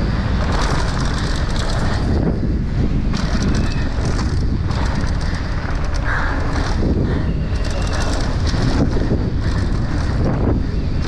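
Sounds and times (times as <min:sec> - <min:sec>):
bike rattling and clicking: 0:00.0 - 0:11.0
bike tyres rolling over dirt: 0:00.0 - 0:11.0
wind rushing over microphone: 0:00.0 - 0:11.0.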